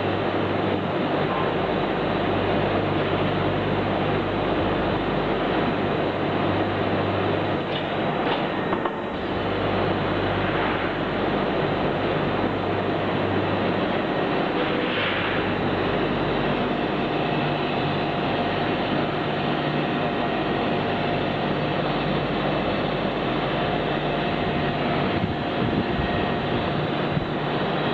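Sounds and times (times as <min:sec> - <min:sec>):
faint steady machine whine: 0:00.0 - 0:27.9
plastic welding machine hum and hiss: 0:00.0 - 0:27.9.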